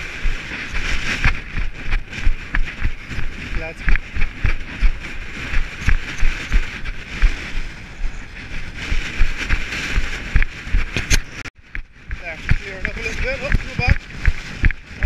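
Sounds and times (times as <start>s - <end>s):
running footsteps on rocky path: 0.0s - 15.0s
wind on microphone: 0.0s - 15.0s.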